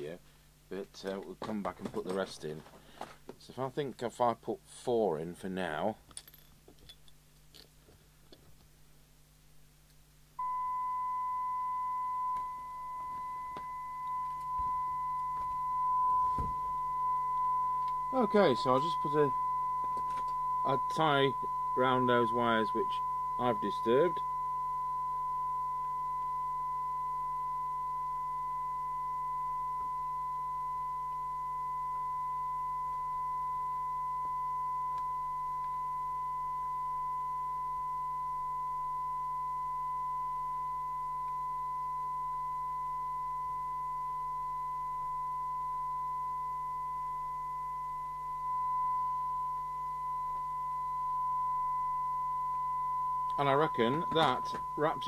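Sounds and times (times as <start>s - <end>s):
high-pitched test tone: 10.4s - 55.0s.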